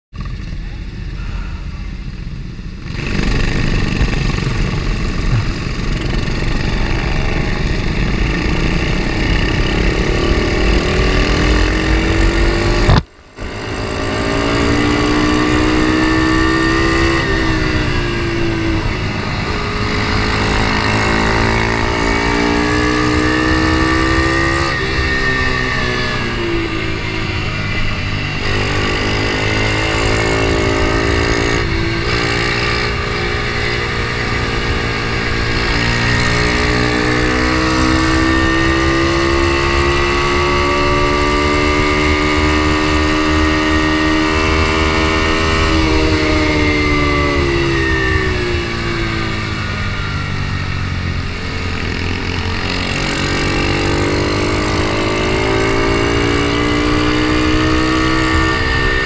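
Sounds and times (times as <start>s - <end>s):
racing motorcycle engine revving: 0.2s - 59.0s.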